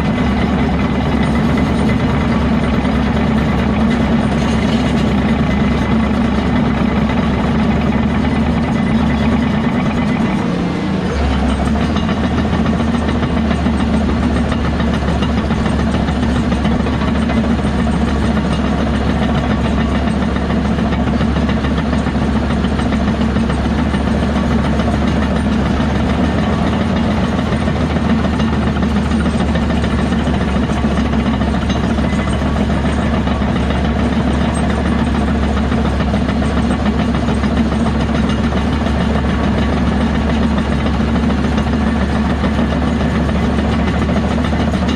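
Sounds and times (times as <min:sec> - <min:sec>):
diesel machinery engine drone: 0:00.0 - 0:44.9.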